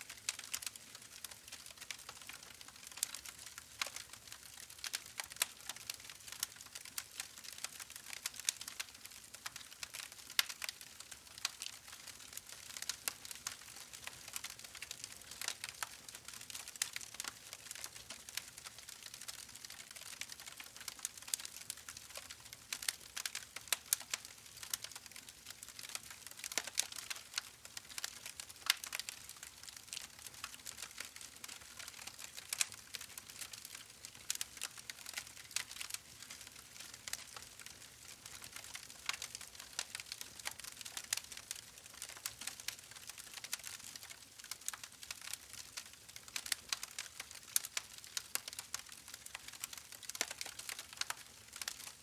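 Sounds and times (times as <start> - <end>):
wood fire crackling: 0.1 - 52.0.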